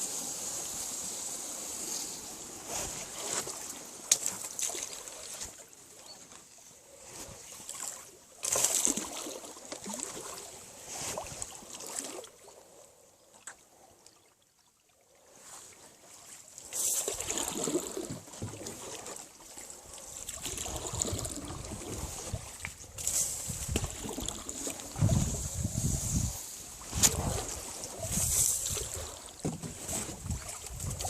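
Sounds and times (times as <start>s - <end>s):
plants swishing against boat: 0.0s - 12.2s, 15.3s - 31.0s
water splashing and sloshing: 0.7s - 31.0s.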